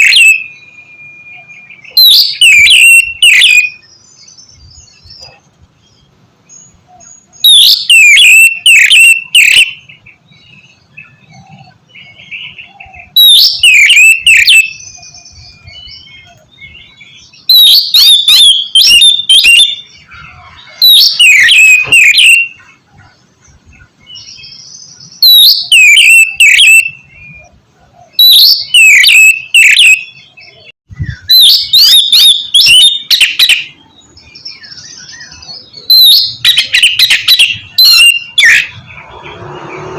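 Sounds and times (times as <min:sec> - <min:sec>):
bird singing whistles and chatter: 0:00.0 - 0:05.4, 0:06.5 - 0:23.1, 0:23.8 - 0:39.9.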